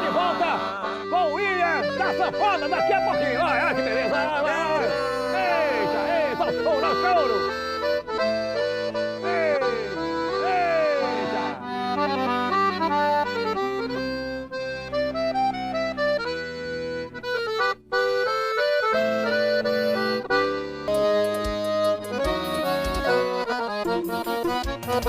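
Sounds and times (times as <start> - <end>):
accordion playing: 0.0 - 25.0.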